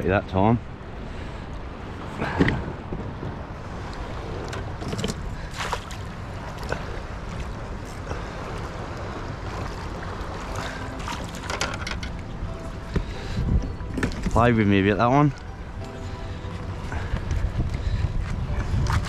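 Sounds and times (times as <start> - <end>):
wind buffeting microphone: 0.0 - 19.0
waves lapping against kayak hull: 0.8 - 19.0.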